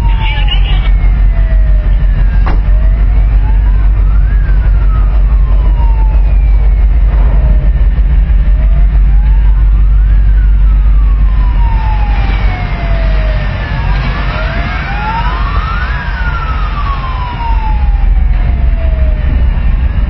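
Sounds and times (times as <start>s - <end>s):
heavy low rumble: 0.0s - 20.0s
wailing sirens: 0.0s - 20.0s.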